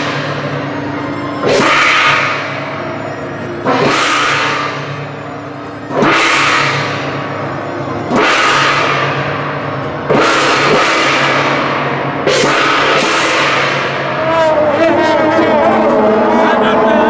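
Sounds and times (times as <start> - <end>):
gong and cymbals crashing: 0.0 - 16.9
higher held tone: 0.0 - 17.0
low steady drone: 0.0 - 17.0.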